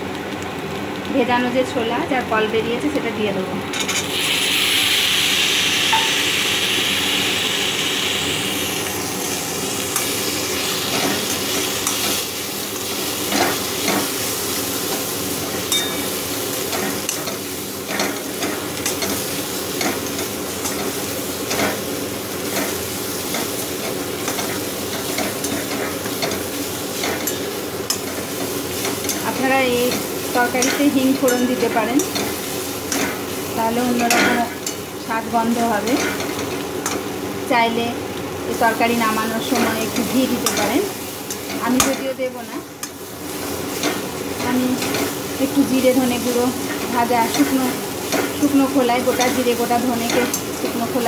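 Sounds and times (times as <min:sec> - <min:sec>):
food sizzling in a wok: 0:00.0 - 0:51.0.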